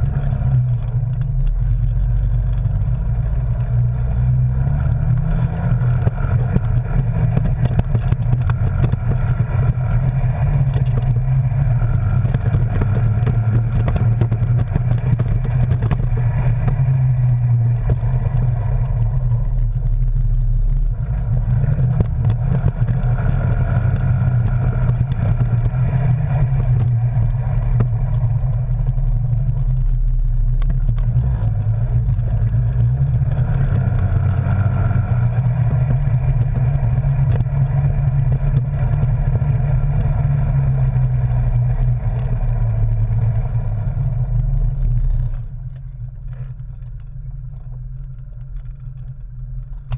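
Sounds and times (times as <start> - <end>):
vehicle engine revving: 0.0 - 49.9.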